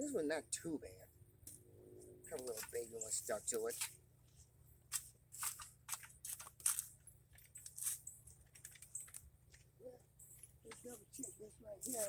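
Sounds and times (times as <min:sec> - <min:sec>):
dry vines rustling and crackling: 0:01.4 - 0:12.0.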